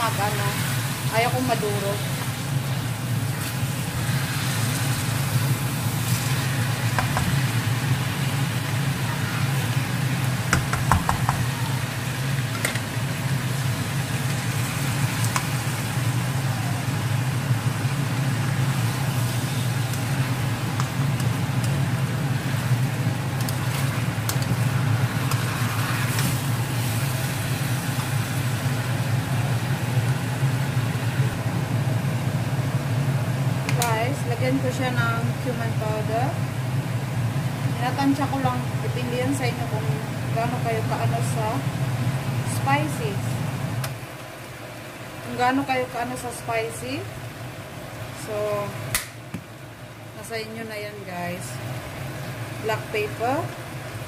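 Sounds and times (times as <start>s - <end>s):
chicken sizzling in a frying pan: 0.0s - 54.0s
low mechanical hum: 0.0s - 54.0s.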